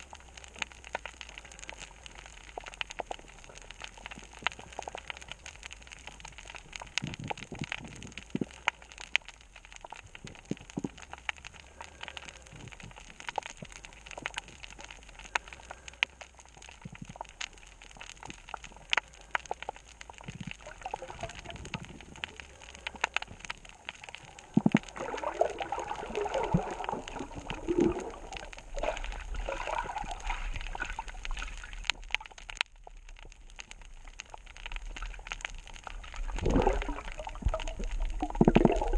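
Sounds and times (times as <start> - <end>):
water bubbling and gurgling: 0.0 - 15.9, 16.6 - 38.9
crackle of sharp clicks: 0.0 - 38.9.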